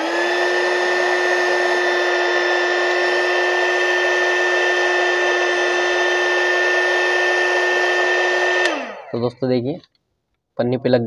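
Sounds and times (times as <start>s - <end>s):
heat gun fan whine: 0.0s - 9.4s.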